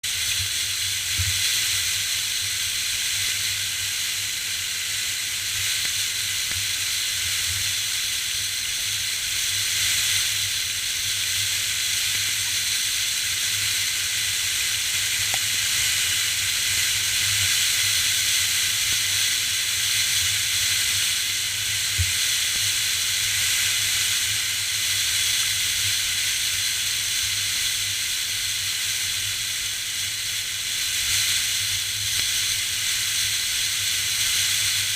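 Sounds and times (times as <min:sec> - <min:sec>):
wind-blown sand hissing: 0:00.1 - 0:34.9.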